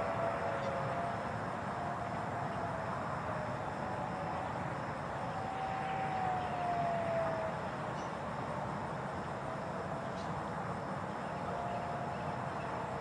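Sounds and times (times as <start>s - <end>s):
distant warning siren wailing: 0.0s - 13.0s.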